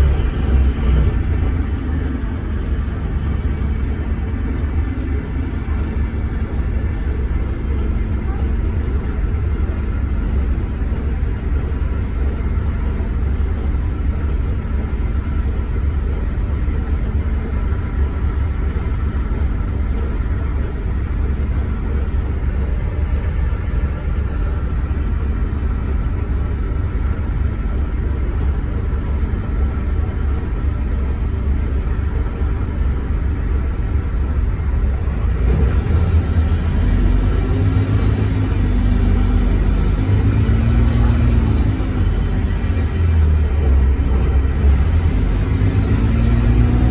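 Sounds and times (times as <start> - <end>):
bus diesel engine rumbling: 0.0 - 46.9.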